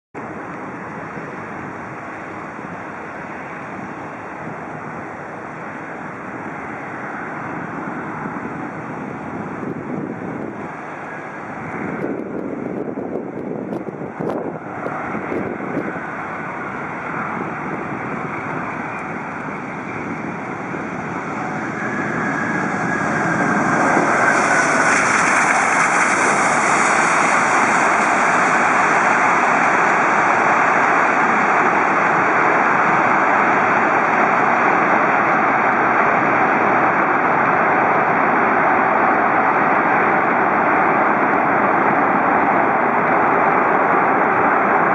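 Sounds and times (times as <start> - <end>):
jet engines running: 0.2 - 44.9.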